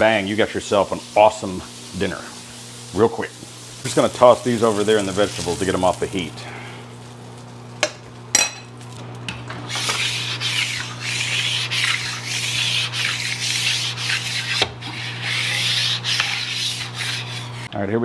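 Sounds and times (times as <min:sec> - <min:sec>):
utensil scraping food on hot surface: 0:00.0 - 0:07.8, 0:09.5 - 0:17.7.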